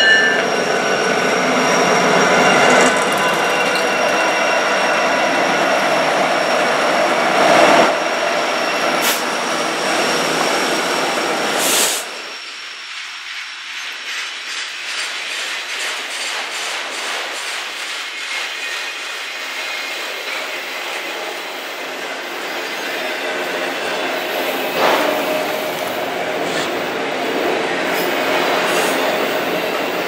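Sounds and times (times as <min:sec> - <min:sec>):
diesel locomotive engines: 0:00.0 - 0:30.0.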